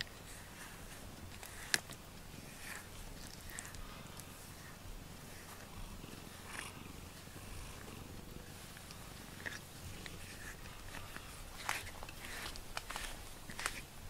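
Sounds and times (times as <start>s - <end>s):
brush strokes through fur: 0.0s - 14.0s
cat purring: 0.0s - 14.0s.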